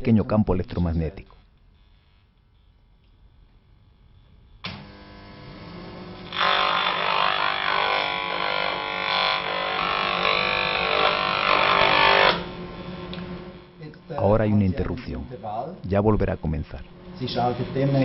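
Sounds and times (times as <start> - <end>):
radiation meter buzzing: 0.0 - 18.0.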